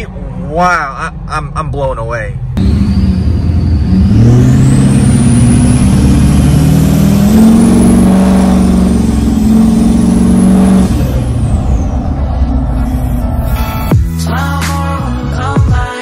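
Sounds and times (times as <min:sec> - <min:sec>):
diesel engine drone: 0:00.0 - 0:15.5.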